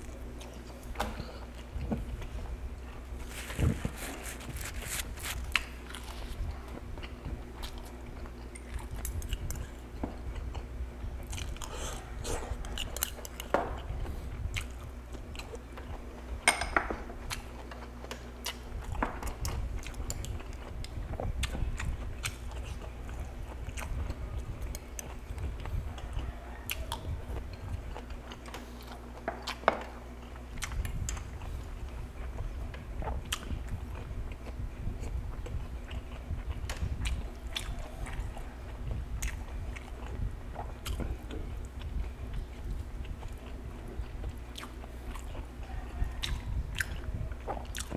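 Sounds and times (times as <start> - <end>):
faint low hum: 0.0 - 47.9
man chewing food: 0.0 - 47.9.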